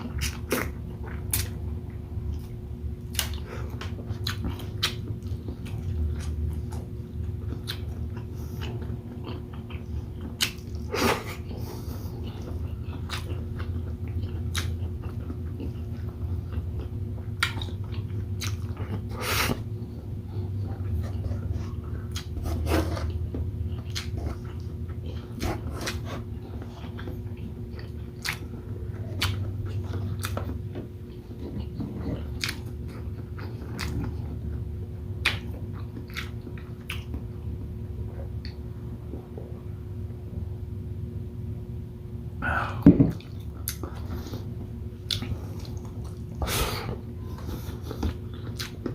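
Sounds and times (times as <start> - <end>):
chewing with wet mouth clicks: 0.0 - 11.5, 12.2 - 19.1, 19.8 - 22.4, 23.1 - 37.7, 38.4 - 39.4, 43.1 - 48.9
steady low hum: 0.0 - 48.9.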